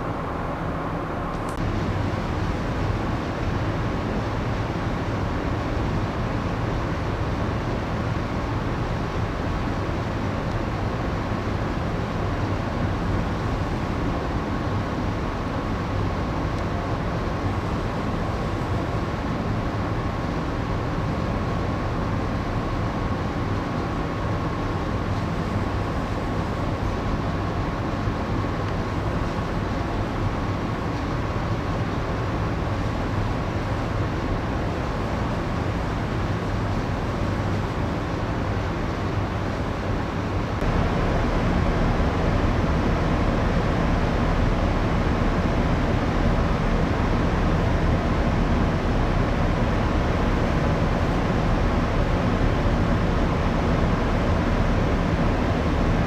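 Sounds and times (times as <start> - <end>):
ship machinery deep drone: 0.0 - 56.0.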